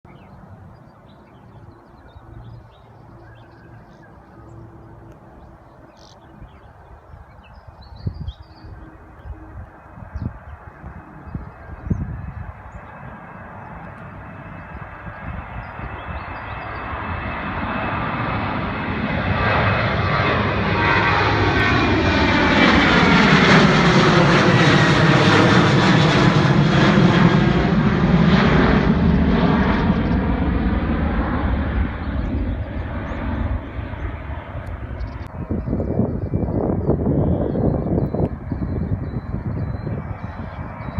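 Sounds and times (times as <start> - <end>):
jet airliner passing overhead: 0.1 - 40.9.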